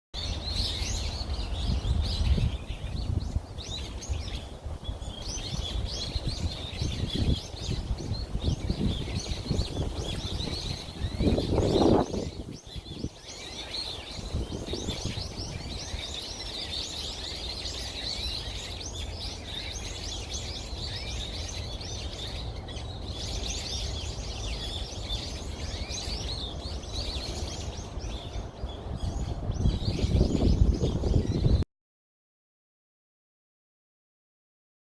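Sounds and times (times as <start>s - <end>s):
small birds chirping: 0.2s - 31.6s.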